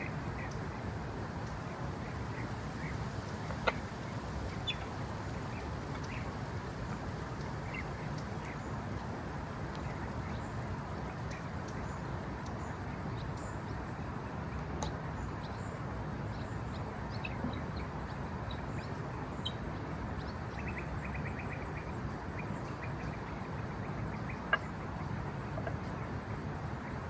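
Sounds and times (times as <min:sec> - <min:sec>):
low rushing background noise: 0:00.0 - 0:27.0.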